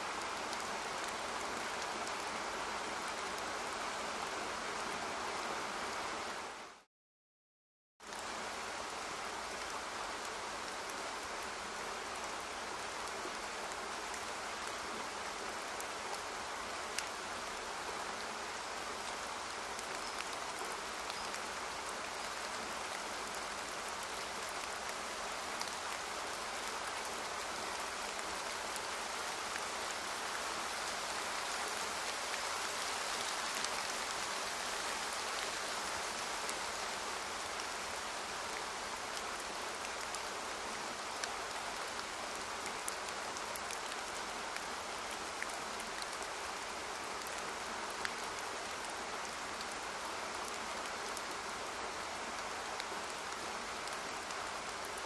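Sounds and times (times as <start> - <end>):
rain falling: 0.0 - 6.9, 8.0 - 55.0.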